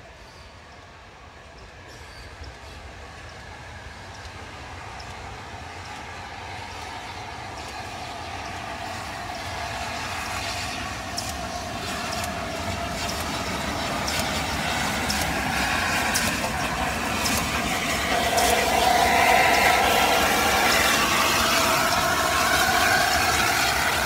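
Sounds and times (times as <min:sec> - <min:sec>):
steam locomotive running past: 0:00.0 - 0:24.0.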